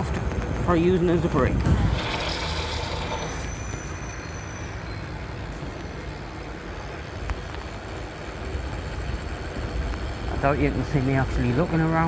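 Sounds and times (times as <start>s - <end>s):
wind and bicycle tyre noise: 0.0s - 12.0s.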